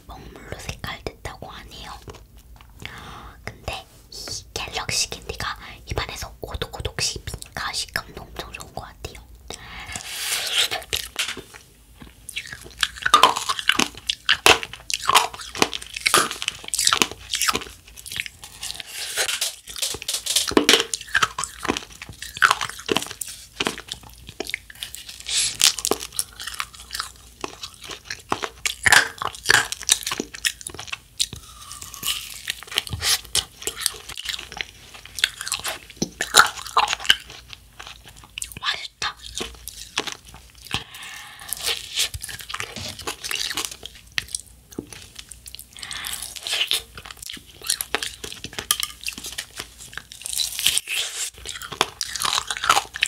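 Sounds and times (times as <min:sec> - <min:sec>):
crunchy chewing: 0:09.9 - 0:53.0.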